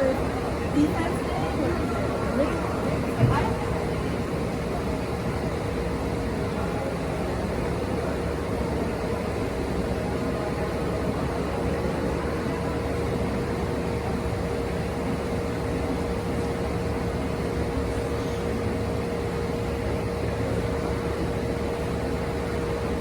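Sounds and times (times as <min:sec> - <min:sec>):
mechanical hum with whooshing: 0:00.0 - 0:23.0.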